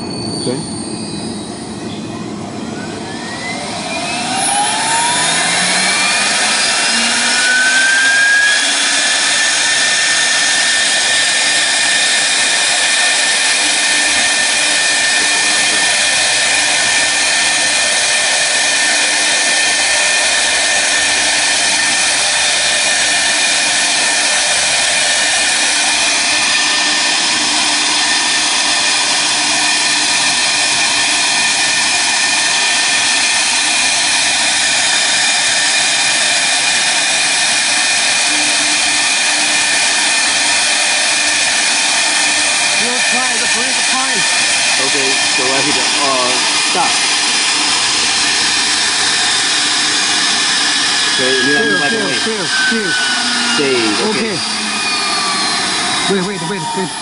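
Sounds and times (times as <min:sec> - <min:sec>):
router spindle high whine: 0:00.0 - 0:57.0.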